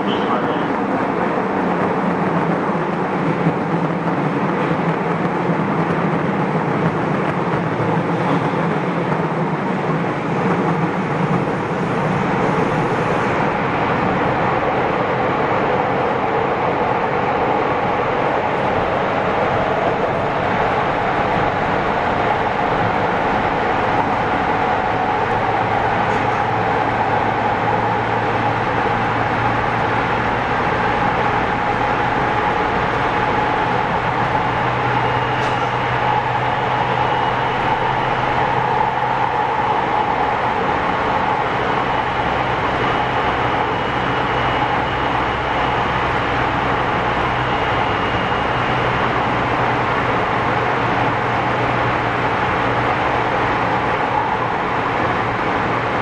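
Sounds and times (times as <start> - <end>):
steady hum: 0.0 - 56.0
train wheels rumbling: 0.0 - 56.0.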